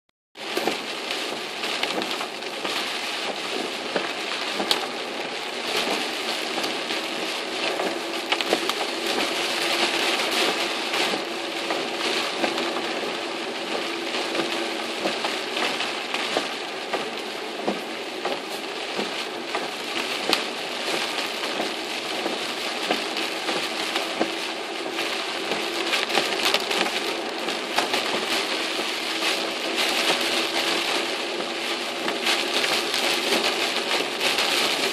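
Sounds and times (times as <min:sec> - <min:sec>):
rain pelting car roof: 0:00.4 - 0:34.9.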